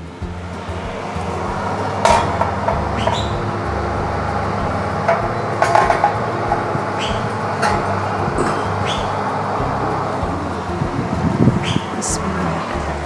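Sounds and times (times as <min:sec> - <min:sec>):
steady hum and rushing noise: 0:00.0 - 0:13.0.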